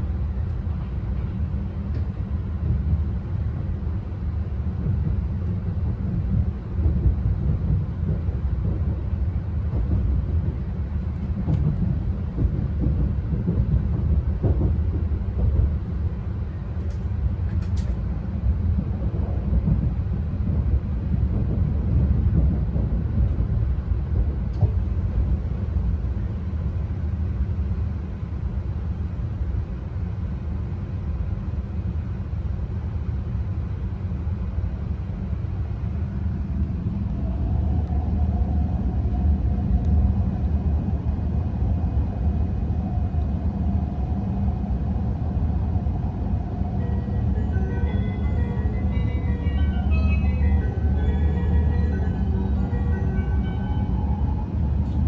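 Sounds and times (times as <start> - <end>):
train rumble inside cabin: 0.0 - 55.0.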